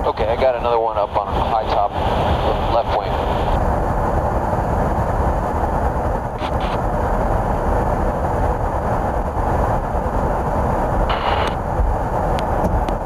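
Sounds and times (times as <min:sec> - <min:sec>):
aircraft cabin rushing noise: 0:00.0 - 0:13.0.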